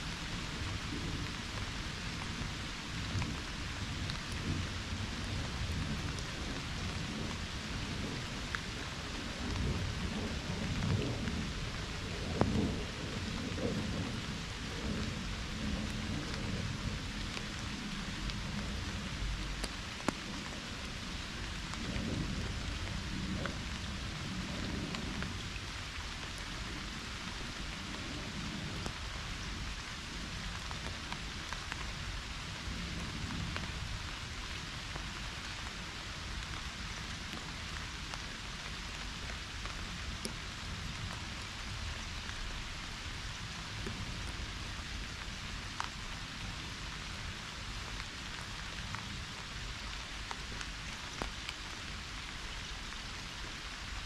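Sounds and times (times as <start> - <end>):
pouring rain: 0.0 - 54.0.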